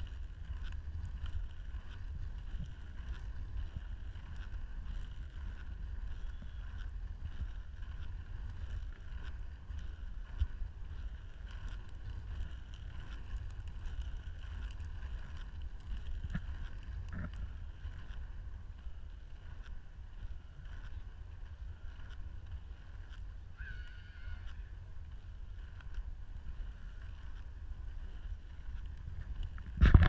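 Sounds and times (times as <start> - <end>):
skate wheels rolling on tarmac: 0.0 - 30.0
wind buffeting microphone: 0.0 - 30.0.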